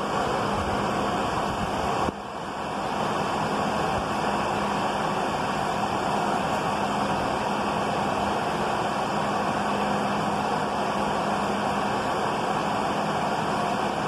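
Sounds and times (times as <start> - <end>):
diesel railcar engine humming: 0.0 - 14.0.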